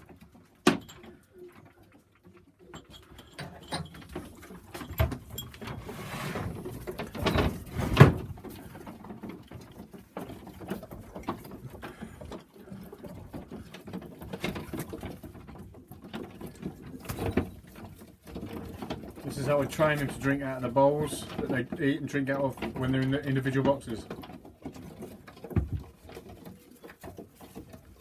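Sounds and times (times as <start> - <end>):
knocks and scuffling: 0.0 - 28.0
pigeons tapping and pecking: 0.0 - 28.0.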